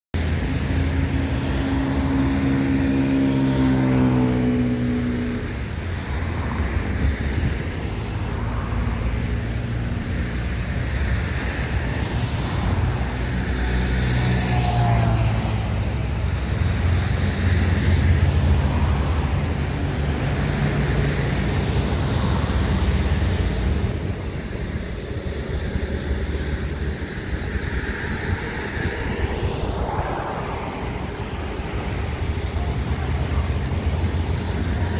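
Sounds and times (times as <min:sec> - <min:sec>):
vehicles passing by: 0:00.2 - 0:34.9.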